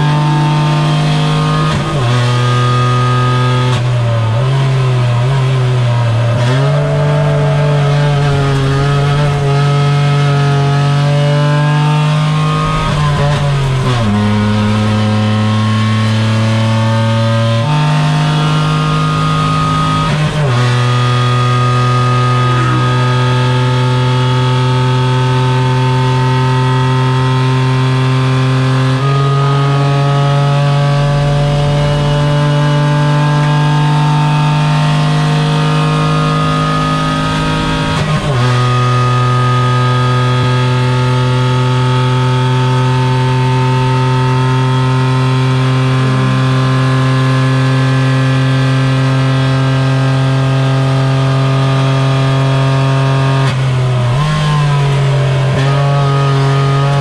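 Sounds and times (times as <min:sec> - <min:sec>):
race car engine at high revs: 0:00.0 - 0:57.0.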